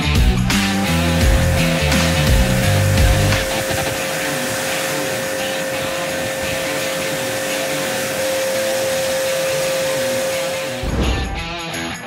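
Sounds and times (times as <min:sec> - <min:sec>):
motor hum: 0:00.2 - 0:11.8
pressure washer water jet hiss: 0:00.7 - 0:10.9.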